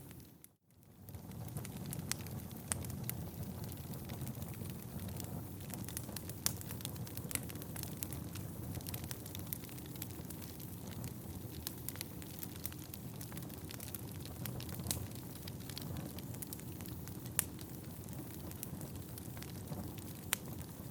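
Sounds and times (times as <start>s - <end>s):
fireplace fire crackling: 0.0s - 20.9s.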